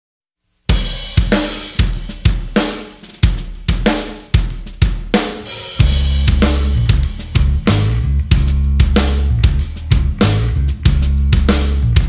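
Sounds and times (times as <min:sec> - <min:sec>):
drum kit playing: 0:00.7 - 0:12.0.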